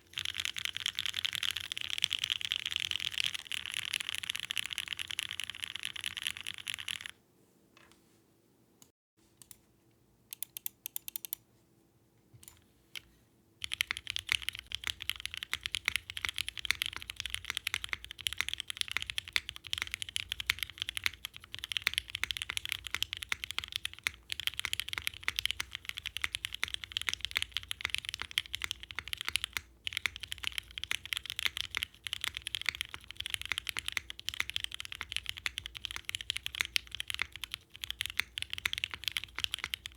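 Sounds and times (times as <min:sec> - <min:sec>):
mechanical keyboard typing: 0:00.1 - 0:07.2, 0:10.3 - 0:11.4, 0:13.6 - 0:39.9.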